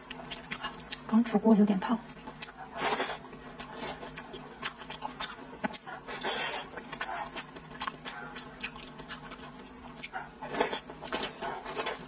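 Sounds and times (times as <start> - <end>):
wet chewing: 2.3 - 12.0.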